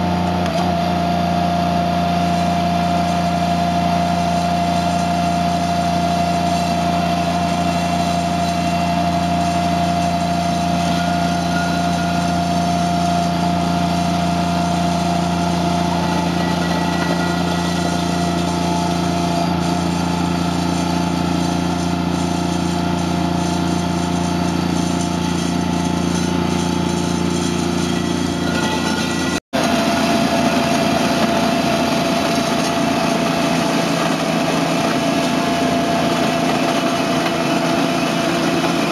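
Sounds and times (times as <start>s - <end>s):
loader engine running: 0.0s - 38.9s
steady high tone: 2.0s - 38.9s
rake dragging through gravel: 2.1s - 38.9s.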